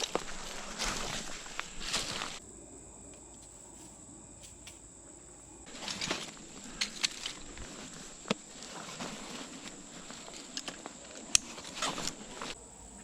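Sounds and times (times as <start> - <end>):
rustling and shuffling: 0.0 - 2.4, 3.0 - 12.6
high insect drone: 0.0 - 13.0.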